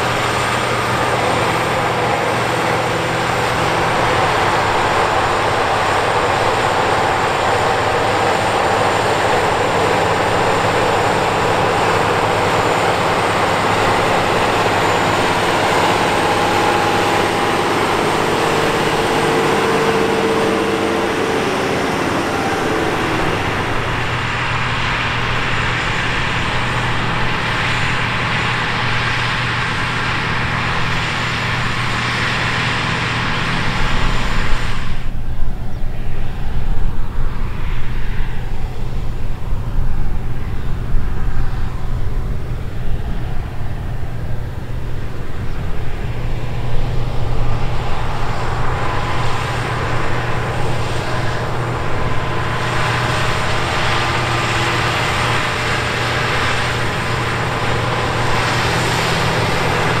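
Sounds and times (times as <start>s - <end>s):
diesel tractor engine under heavy load: 0.0s - 60.0s.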